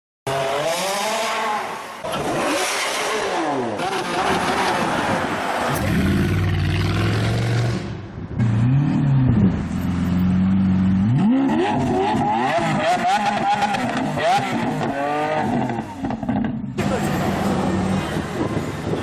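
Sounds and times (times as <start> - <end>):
sports car engines revving: 0.3 - 19.0.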